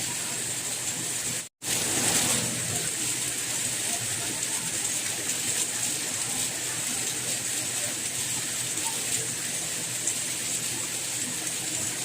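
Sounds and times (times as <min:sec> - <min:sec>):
soft rain falling: 0:00.0 - 0:12.0.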